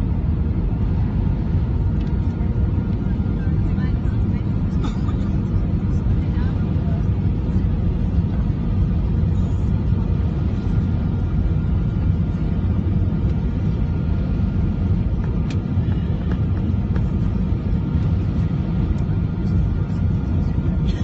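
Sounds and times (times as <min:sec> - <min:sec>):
airliner cabin rumble: 0:00.0 - 0:21.0
jet engine whine: 0:00.0 - 0:21.0.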